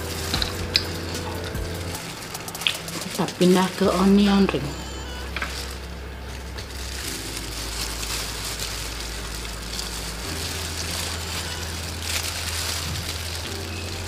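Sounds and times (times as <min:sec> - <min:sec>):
onion ring crackling: 0:00.0 - 0:14.0
soft background music: 0:00.0 - 0:14.0.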